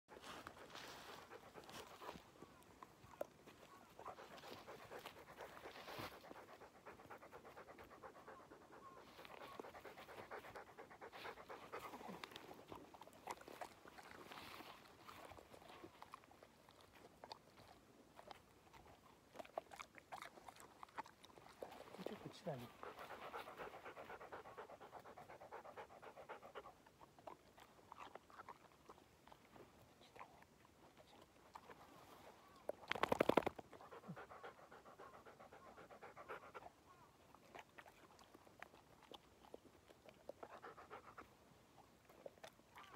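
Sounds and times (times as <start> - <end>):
dog panting: 0.1 - 32.2, 33.0 - 42.9.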